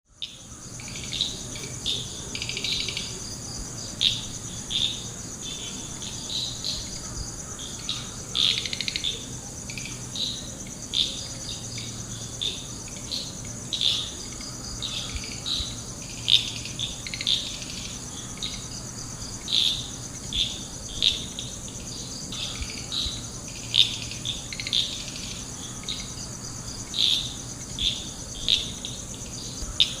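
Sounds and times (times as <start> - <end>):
high insect drone: 0.1 - 30.0.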